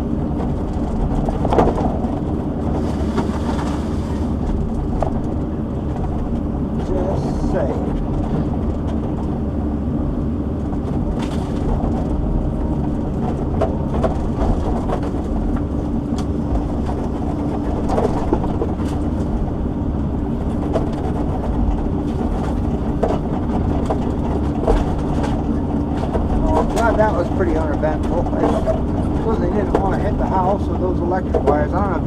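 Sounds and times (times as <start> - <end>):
excavator engine hum: 0.0 - 32.0.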